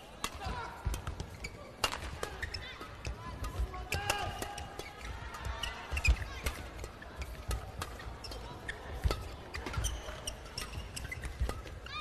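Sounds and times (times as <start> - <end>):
rackets striking shuttlecock: 0.1 - 12.0
shoes squeaking on court: 1.0 - 3.5, 4.5 - 12.0.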